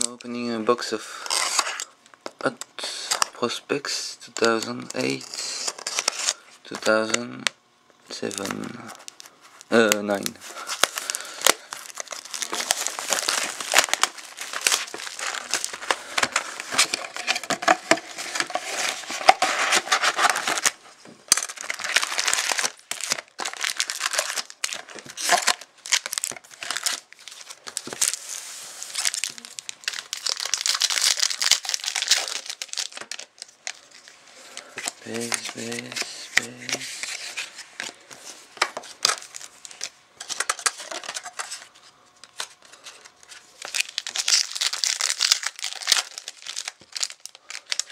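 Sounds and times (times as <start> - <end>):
plastic wrap crinkling and tearing: 1.1 - 1.9, 4.4 - 7.2, 8.1 - 47.9
foil packs rustling: 8.1 - 47.9.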